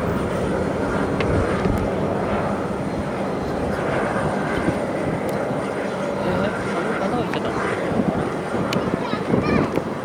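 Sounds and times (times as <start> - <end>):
jet airliner engines running: 0.0 - 10.0.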